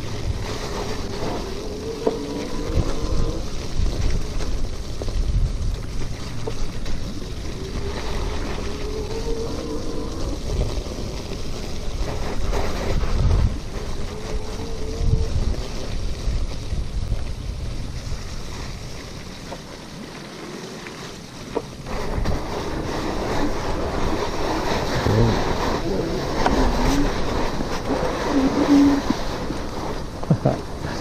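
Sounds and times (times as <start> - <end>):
wind buffeting microphone: 0.0 - 20.0, 21.4 - 31.0
tyre and road noise: 0.0 - 31.0.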